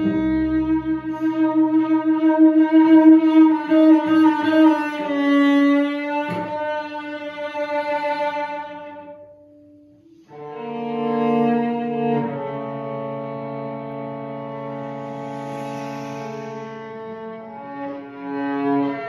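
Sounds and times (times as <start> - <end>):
bowed cello notes: 0.0 - 19.0.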